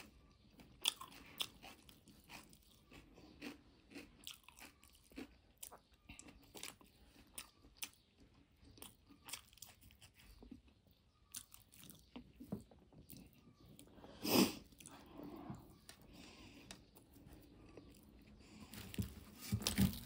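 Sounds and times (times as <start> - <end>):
person chewing and crunching: 0.0 - 18.6.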